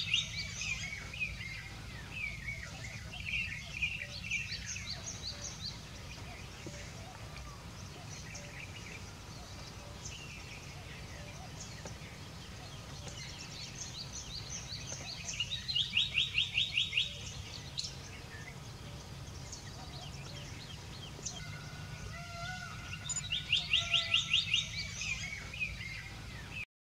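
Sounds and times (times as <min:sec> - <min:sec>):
small birds chirping: 0:00.0 - 0:26.7.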